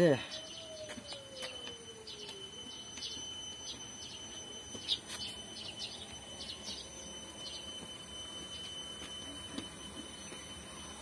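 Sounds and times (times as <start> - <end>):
birds chirping: 0.0 - 11.0
faint steady high tone: 0.0 - 11.0.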